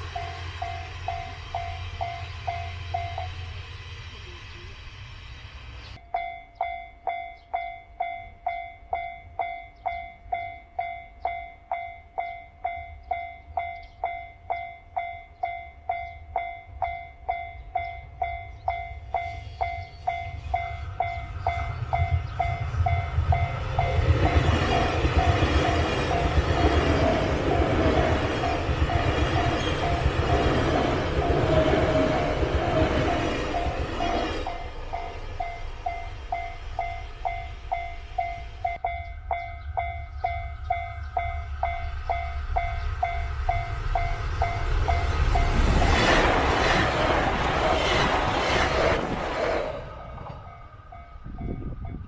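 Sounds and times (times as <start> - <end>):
train wheel rumble: 0.0 - 6.7, 7.4 - 52.0
electric train passing: 0.0 - 52.0.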